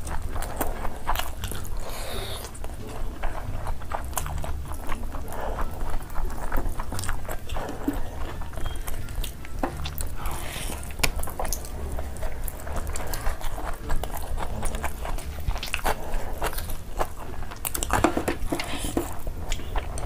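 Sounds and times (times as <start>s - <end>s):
chewing and lip-smacking: 0.0s - 20.0s.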